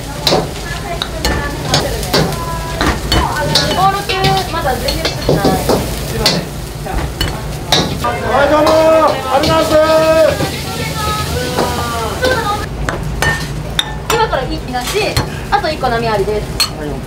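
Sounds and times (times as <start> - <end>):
rice sizzling in a wok: 0.0 - 17.0
metal ladle clanking on wok: 0.2 - 10.6, 11.6 - 15.4.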